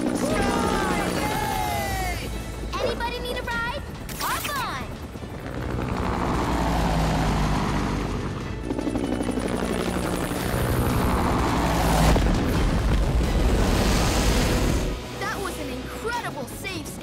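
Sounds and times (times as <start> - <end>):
cartoon helicopter rotor: 0.0 - 14.8
action music: 0.0 - 17.0.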